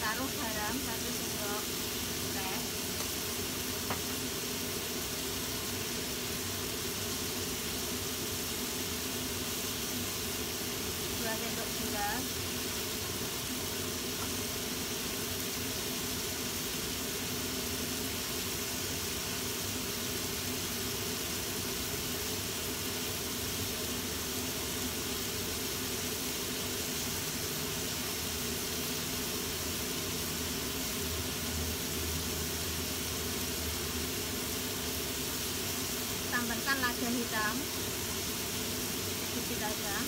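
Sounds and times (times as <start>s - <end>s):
pan of food sizzling: 0.0s - 40.0s.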